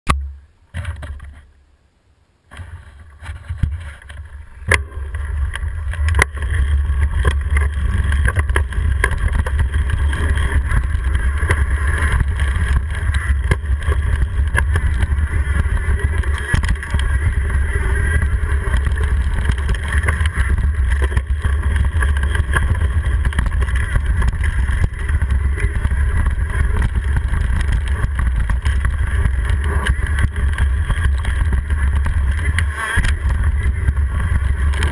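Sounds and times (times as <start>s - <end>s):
bike rattling and clicking: 0.1s - 1.5s, 2.5s - 34.9s
wind rumble on microphone: 2.5s - 34.9s.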